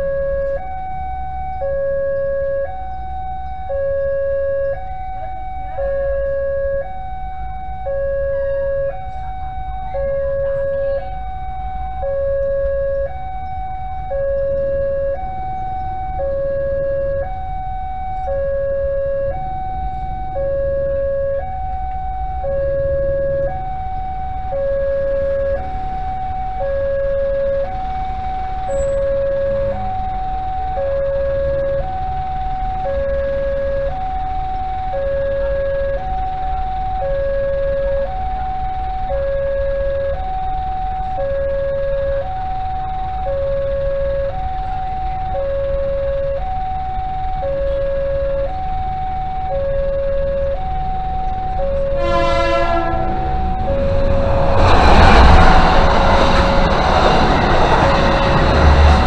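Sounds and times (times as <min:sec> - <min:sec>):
level crossing alarm two-tone signal: 0:00.0 - 0:59.0
low rumble of motor traffic: 0:00.0 - 0:59.0.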